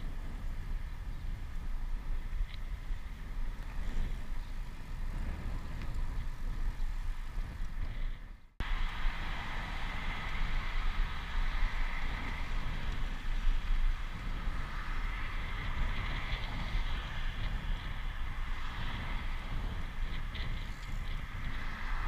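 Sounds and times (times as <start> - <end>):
wind buffeting microphone: 0.0 - 22.0
tyre and road hiss: 2.7 - 22.0.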